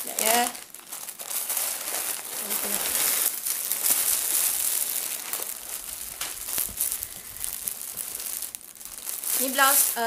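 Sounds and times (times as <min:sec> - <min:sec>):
plastic wrapping rustling: 0:00.0 - 0:10.0.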